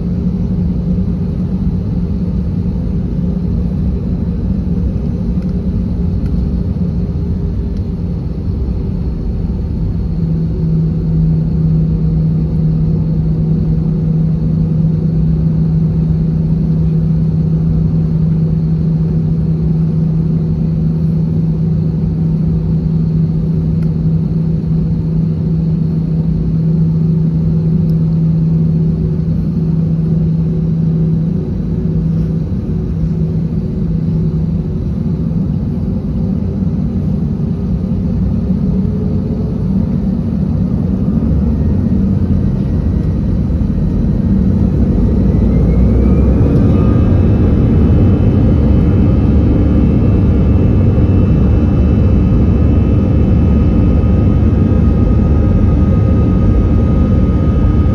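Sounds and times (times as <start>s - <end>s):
jet engine whine: 0.0s - 57.9s
jet engines rumbling: 0.0s - 57.9s.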